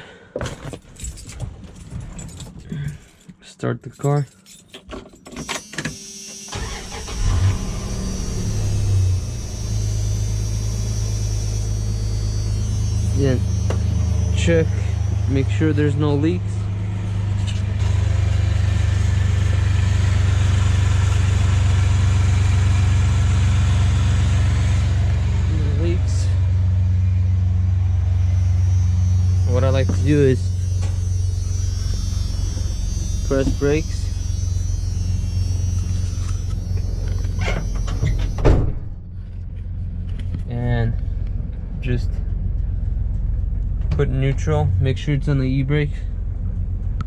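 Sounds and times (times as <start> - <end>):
van engine idling: 6.5 - 38.4, 39.0 - 47.0.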